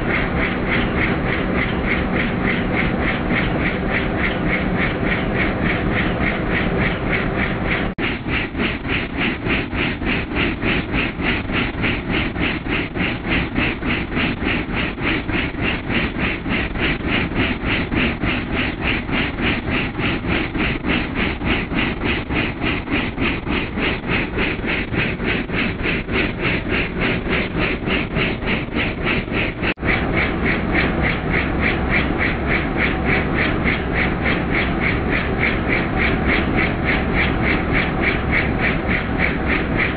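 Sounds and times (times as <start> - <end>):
helicopter engine drone: 0.0 - 39.9
helicopter rotor beat: 0.0 - 39.9.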